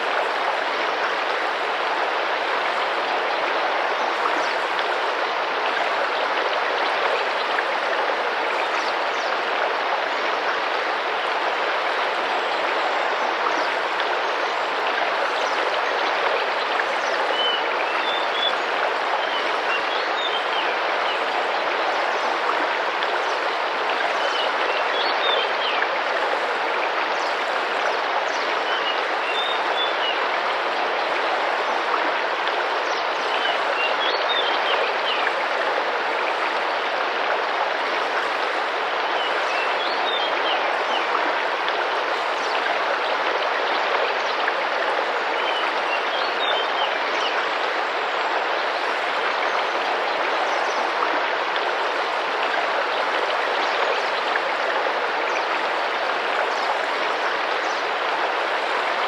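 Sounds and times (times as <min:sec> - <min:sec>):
river rushing and splashing: 0:00.0 - 0:59.0.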